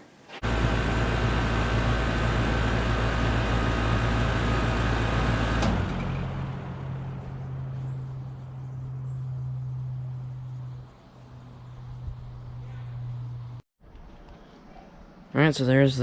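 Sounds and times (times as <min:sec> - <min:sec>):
air conditioner unit running: 0:00.0 - 0:13.6
fan spinning down: 0:00.2 - 0:13.6
steady low hum: 0:00.4 - 0:13.6.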